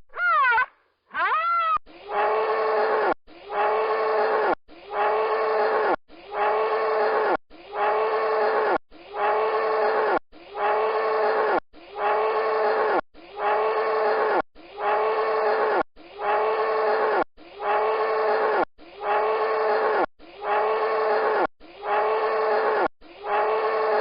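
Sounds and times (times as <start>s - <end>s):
animal call: 0.1s - 24.0s.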